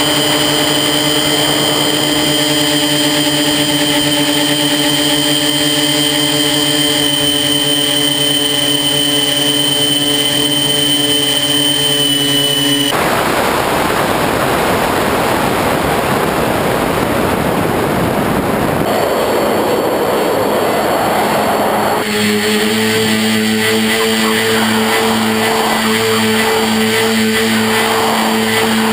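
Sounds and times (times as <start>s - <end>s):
electric motors and propellers whining: 0.0s - 13.0s, 18.4s - 28.9s
wind noise: 5.3s - 28.9s.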